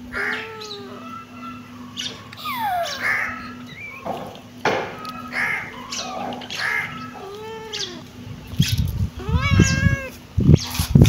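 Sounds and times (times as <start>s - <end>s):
kittens meowing: 0.0s - 8.1s, 9.1s - 10.2s.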